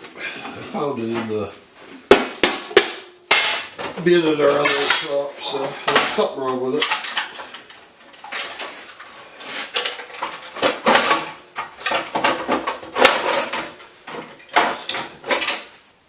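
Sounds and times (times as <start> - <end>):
metal clattering and scraping: 0.0 - 15.8.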